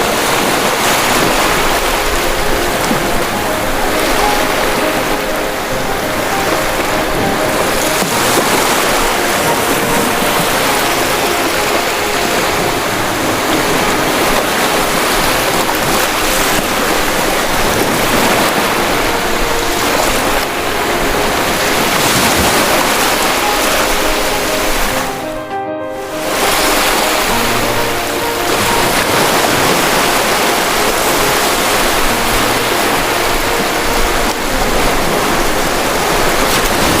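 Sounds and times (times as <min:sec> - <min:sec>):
waves washing on shore: 0:00.0 - 0:37.0.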